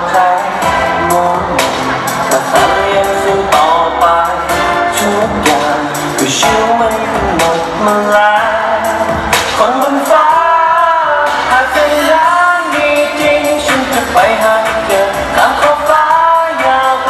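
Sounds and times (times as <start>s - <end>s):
man singing into microphone: 0.0s - 17.0s
pop backing track with beat: 0.0s - 17.0s.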